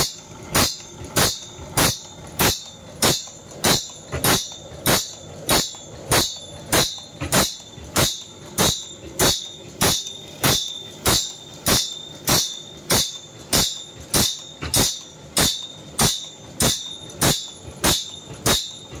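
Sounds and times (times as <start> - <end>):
machine running: 0.0 - 19.0.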